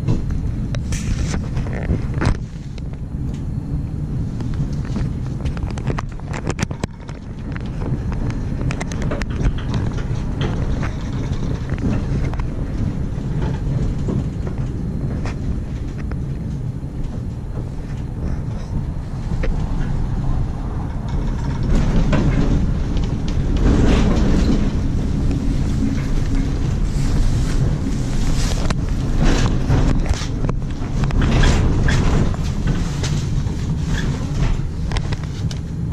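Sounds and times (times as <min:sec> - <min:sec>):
tram rail rumble: 0:00.0 - 0:35.9.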